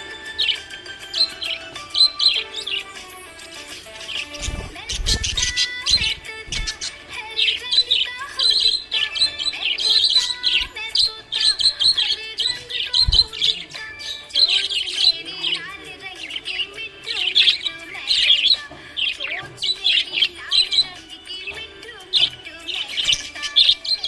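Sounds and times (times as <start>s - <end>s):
parrots chirping: 0.0s - 24.0s.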